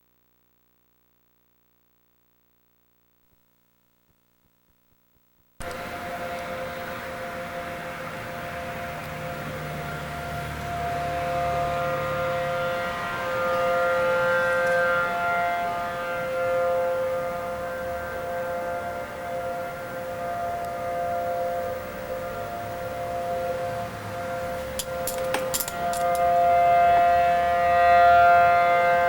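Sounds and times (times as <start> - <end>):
tornado siren two-tone wail: 5.6 - 29.0.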